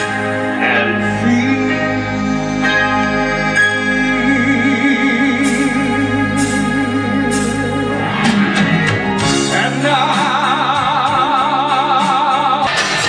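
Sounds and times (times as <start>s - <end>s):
man singing with vibrato: 0.0s - 12.8s
instrumental accompaniment: 0.0s - 13.0s.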